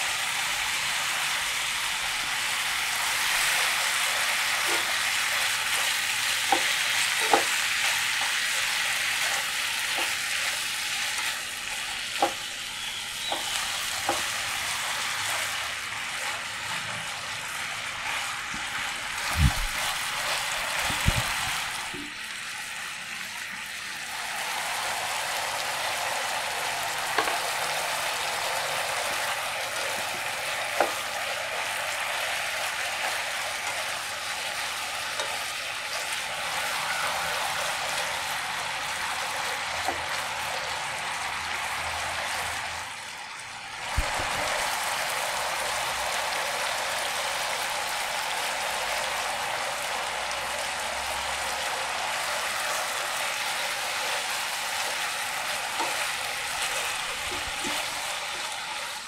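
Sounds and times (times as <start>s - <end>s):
pork sizzling in frying pan: 0.0s - 59.0s.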